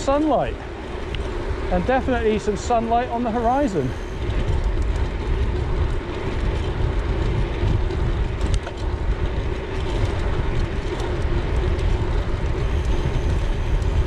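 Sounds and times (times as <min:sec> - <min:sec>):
bike tyres rumbling on tarmac: 0:00.0 - 0:14.0
wind buffeting microphone: 0:00.0 - 0:14.0.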